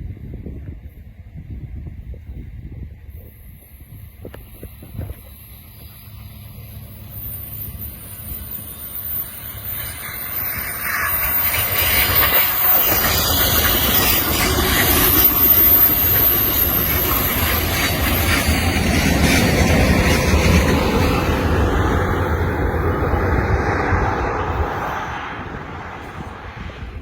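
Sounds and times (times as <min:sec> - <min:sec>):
train wheels rushing on rail: 0:00.1 - 0:27.0.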